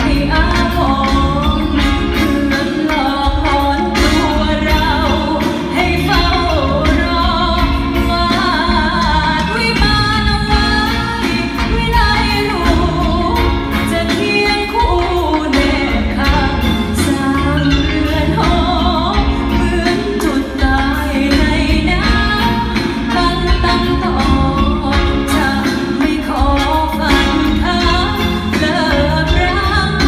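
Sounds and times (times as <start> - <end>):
live band accompaniment: 0.0 - 30.0
woman singing ballad: 0.0 - 30.0.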